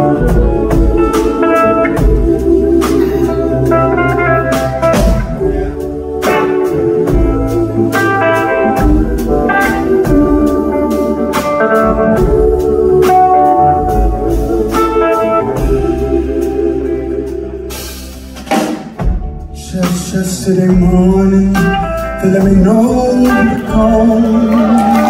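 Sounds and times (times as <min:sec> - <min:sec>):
person singing: 0:00.0 - 0:18.1, 0:19.6 - 0:25.0
live blues rock band: 0:00.0 - 0:25.0.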